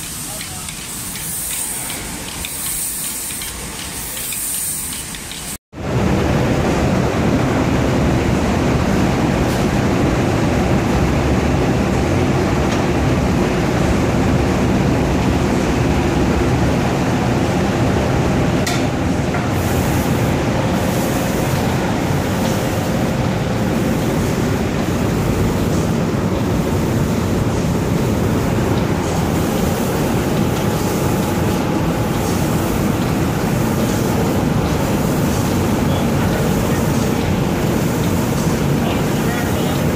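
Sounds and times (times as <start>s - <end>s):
spray-painting line machine noise: 0.0s - 39.9s.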